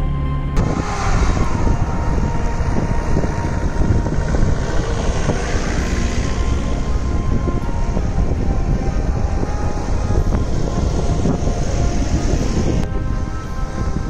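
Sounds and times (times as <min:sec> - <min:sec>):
vehicles driving past: 0:00.0 - 0:14.0.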